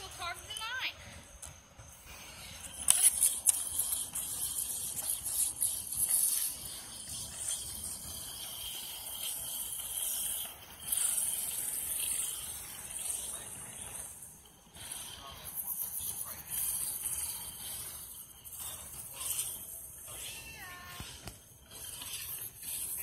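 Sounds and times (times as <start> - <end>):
board wheels rolling on wet concrete: 0.0 - 23.0.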